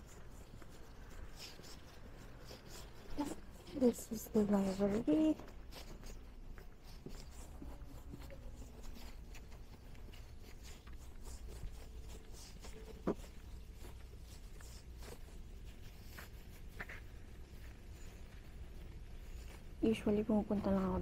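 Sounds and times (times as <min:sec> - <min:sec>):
faint ticks and rustles: 0:00.0 - 0:21.0
steady low hum: 0:00.0 - 0:21.0.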